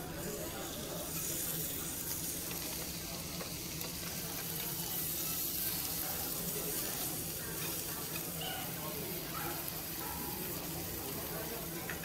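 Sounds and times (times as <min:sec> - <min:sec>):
pork sizzling on a grill: 0:00.0 - 0:12.0.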